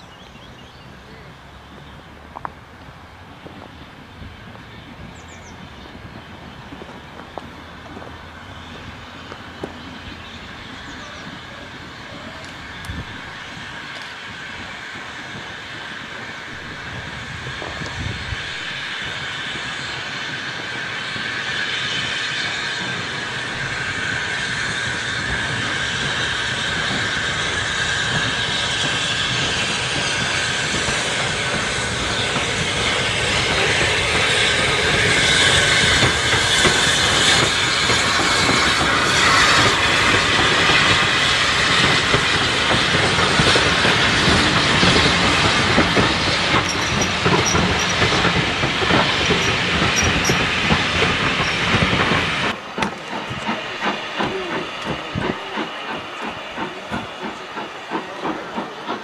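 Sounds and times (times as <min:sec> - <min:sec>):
steam locomotive engine: 0:00.0 - 0:59.0
train wheels on rails: 0:00.0 - 0:59.0.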